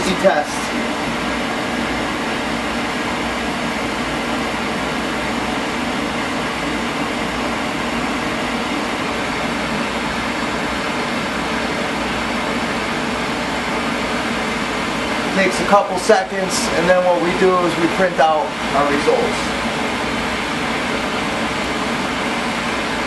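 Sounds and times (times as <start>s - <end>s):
boiler burner rushing: 0.0s - 23.0s.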